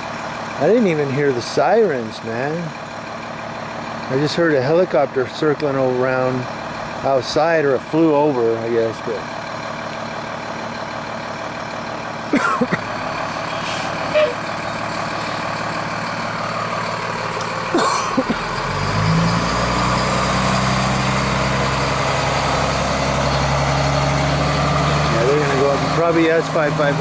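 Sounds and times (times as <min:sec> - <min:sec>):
fire engine idling: 0:00.0 - 0:27.0.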